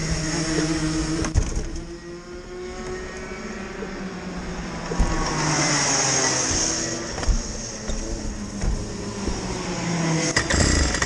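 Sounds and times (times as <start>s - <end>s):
two-stroke kart engines running: 0.0s - 11.0s.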